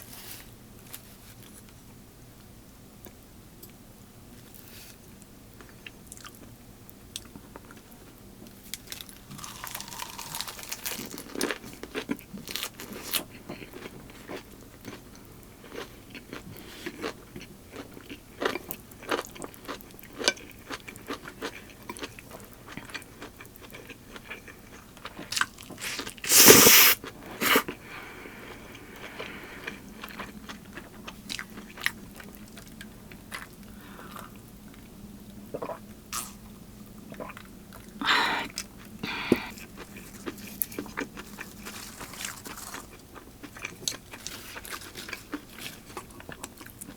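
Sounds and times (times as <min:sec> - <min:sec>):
person chewing and crunching food: 0:05.6 - 0:06.6, 0:07.2 - 0:34.9, 0:35.5 - 0:36.4, 0:37.1 - 0:46.9.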